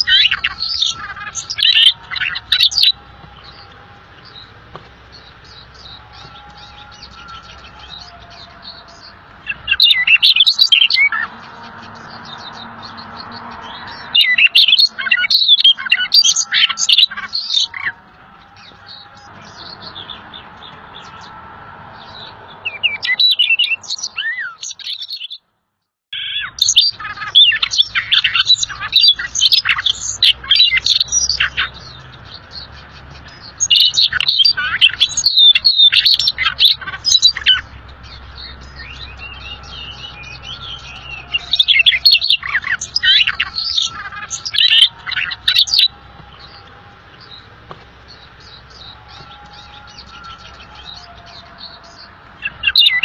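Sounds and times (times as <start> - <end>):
songbird chirping: 0.0 - 53.0.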